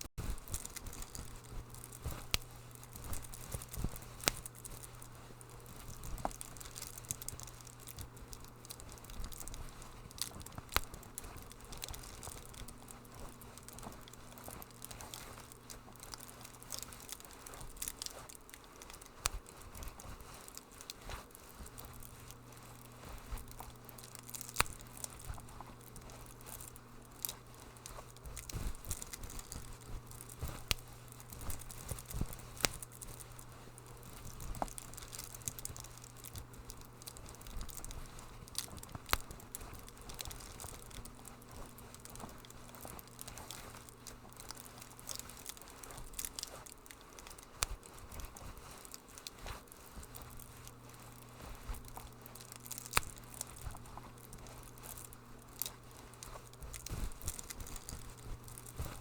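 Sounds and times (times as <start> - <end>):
steady low hum: 0.0 - 59.0
wood fire crackling: 0.0 - 59.0.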